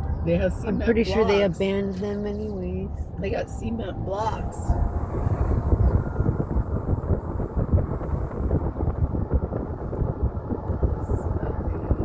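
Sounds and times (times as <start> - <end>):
car road rumble: 0.0 - 12.0
wind buffeting microphone: 0.0 - 12.0.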